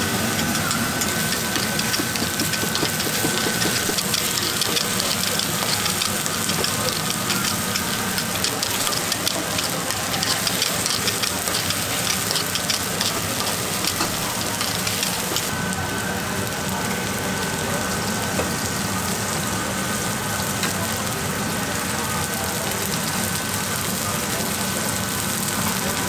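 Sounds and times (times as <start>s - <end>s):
food sizzling on a griddle: 0.0s - 26.0s.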